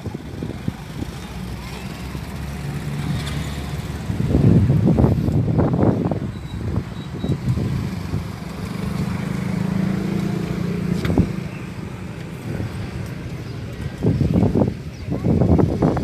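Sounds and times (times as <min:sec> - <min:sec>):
engine humming: 0:00.0 - 0:15.9.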